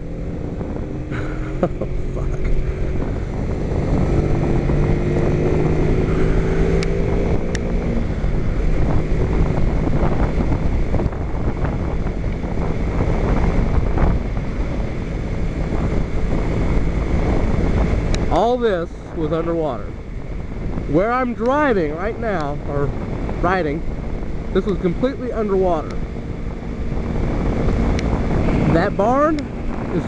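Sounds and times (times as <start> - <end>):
motorcycle engine running: 0.0 - 30.0
wind noise on microphone: 0.0 - 30.0.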